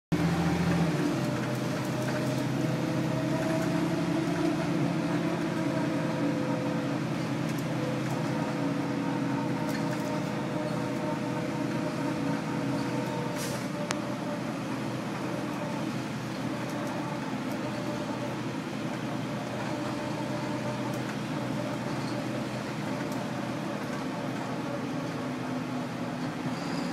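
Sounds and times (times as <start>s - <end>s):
bus diesel engine droning: 0.1s - 26.9s.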